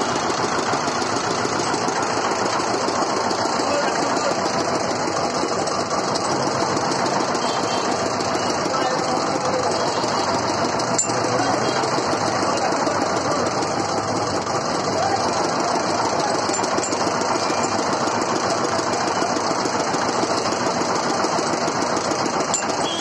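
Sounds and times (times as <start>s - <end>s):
small engine chugging: 0.0s - 23.0s.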